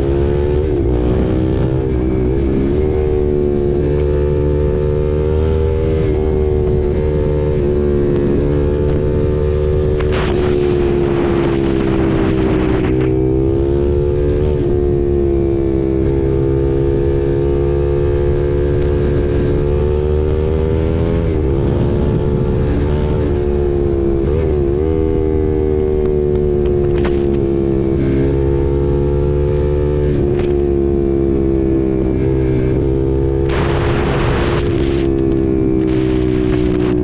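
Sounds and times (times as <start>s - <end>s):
motorcycle engine cruising: 0.0s - 37.0s.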